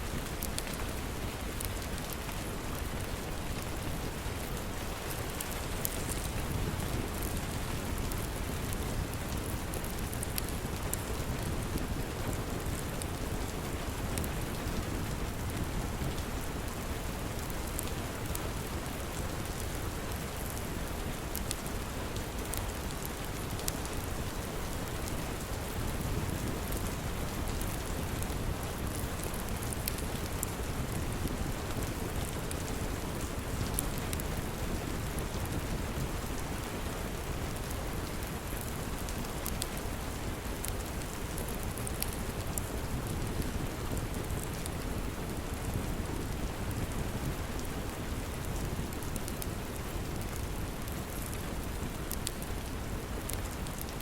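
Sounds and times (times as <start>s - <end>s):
heavy rain: 0.0s - 54.0s
log fire crackling: 0.0s - 54.0s.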